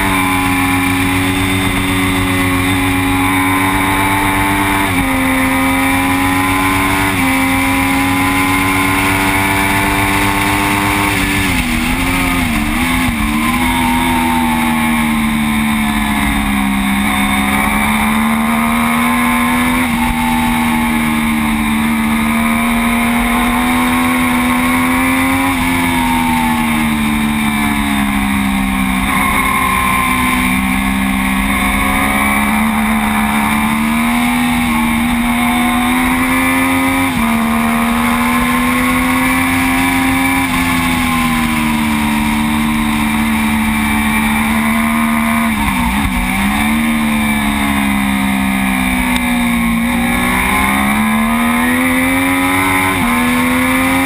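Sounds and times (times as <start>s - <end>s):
motorcycle engine at racing speed: 0.0s - 54.0s.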